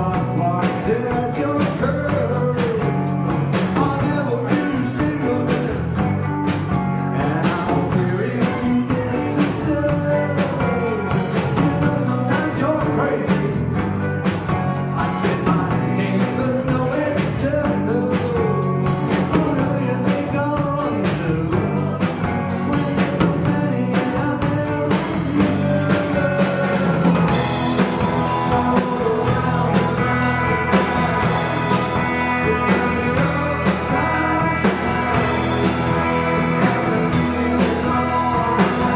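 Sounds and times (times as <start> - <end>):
drum kit: 0.0 - 38.9
electric bass: 0.0 - 38.9
electric guitar: 0.0 - 38.9
man singing: 0.0 - 38.9.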